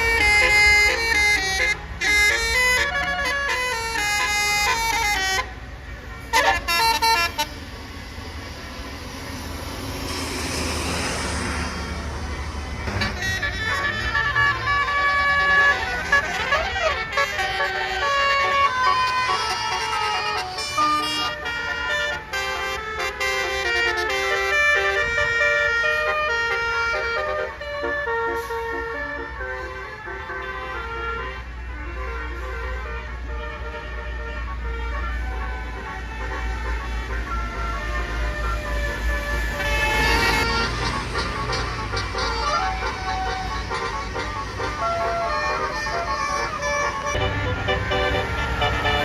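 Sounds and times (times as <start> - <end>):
bus horn playing a tune: 0.0 - 7.9, 12.2 - 49.0
vehicle engine and road noise: 0.0 - 49.0.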